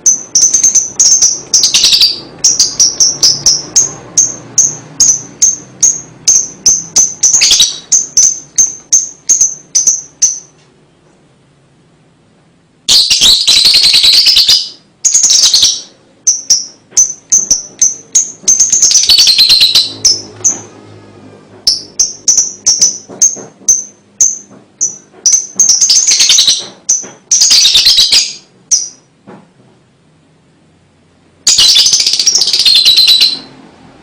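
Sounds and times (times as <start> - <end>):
lovebird chattering: 0.0 - 10.6, 12.9 - 20.7, 21.6 - 29.1, 31.5 - 33.5.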